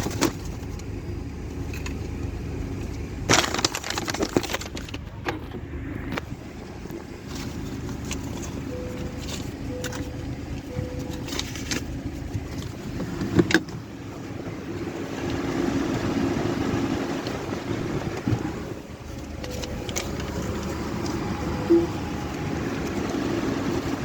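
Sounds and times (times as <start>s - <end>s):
car wash machinery rumbling: 0.0s - 24.0s.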